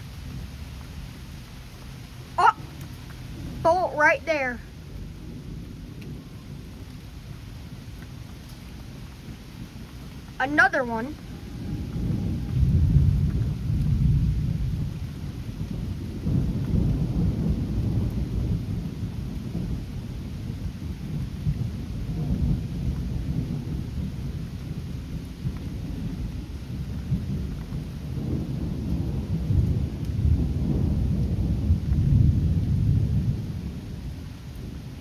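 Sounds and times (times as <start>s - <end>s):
steady rain: 0.0s - 35.0s
rolling thunder: 2.2s - 35.0s.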